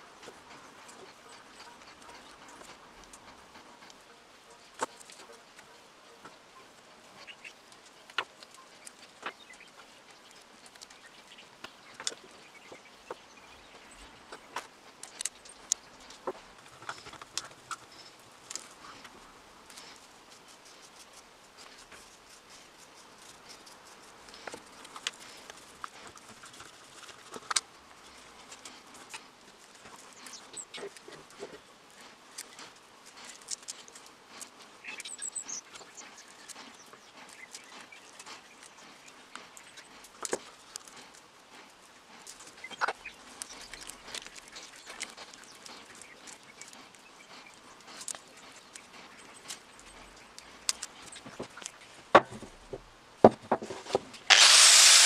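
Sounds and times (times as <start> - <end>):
light clicks taps and scrapes: 0.0 - 54.3.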